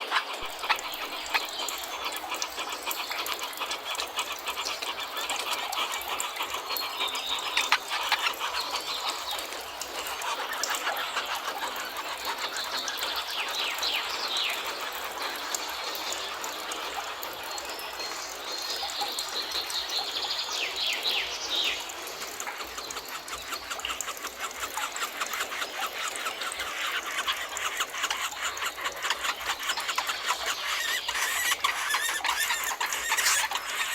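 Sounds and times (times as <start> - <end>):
birds singing and chirping: 0.1 - 33.9.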